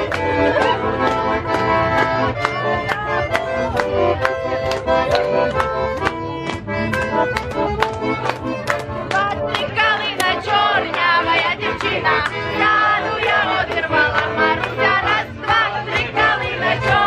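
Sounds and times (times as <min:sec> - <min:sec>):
button accordion dance tune: 0:00.0 - 0:17.0.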